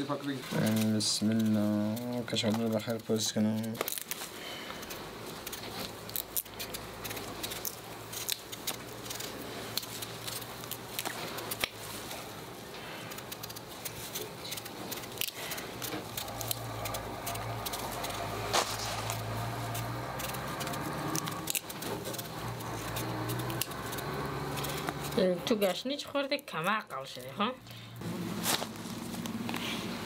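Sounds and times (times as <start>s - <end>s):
steady low hum: 0.0s - 26.6s, 27.2s - 30.0s
knife scraping potato skin: 0.5s - 25.8s.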